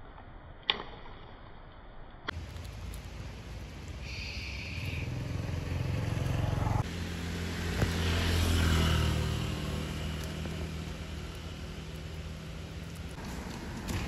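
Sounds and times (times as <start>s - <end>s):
vehicle engine hum: 2.3s - 14.0s.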